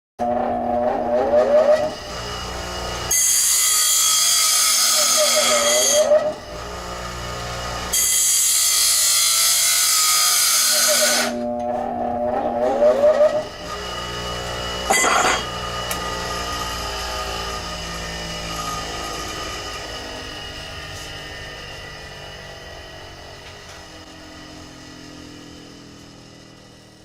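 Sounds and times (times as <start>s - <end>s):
grinding wheel rasping on metal: 0.2s - 24.2s
bench grinder motor humming: 0.2s - 27.0s.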